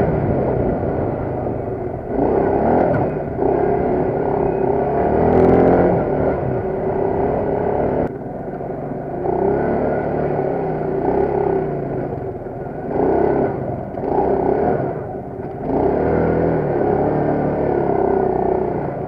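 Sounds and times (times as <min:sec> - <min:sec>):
quad bike engine revving: 0:00.0 - 0:08.1, 0:08.8 - 0:19.0.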